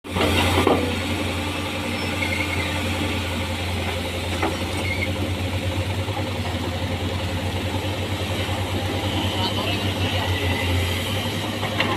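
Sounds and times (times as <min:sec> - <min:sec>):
excavator diesel engine running: 0:00.1 - 0:11.9.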